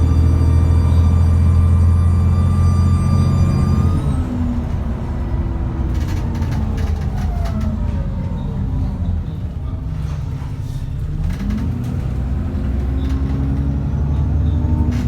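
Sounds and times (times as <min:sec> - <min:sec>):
bus engine with turbo whine: 0:00.0 - 0:15.0.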